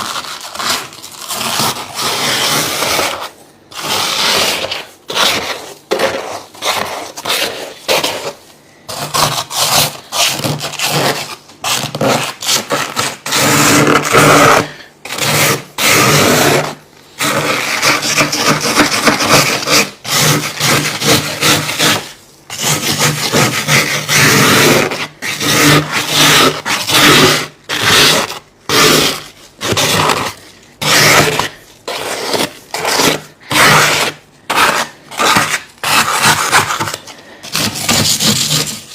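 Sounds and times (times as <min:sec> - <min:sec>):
ice scraping: 0:00.0 - 0:38.9.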